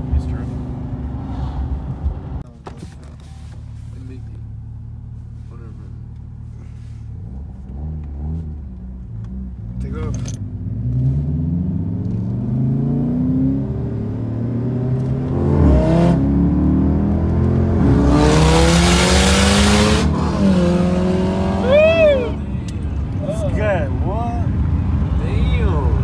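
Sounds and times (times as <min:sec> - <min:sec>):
car engine accelerating: 0:03.4 - 0:26.0.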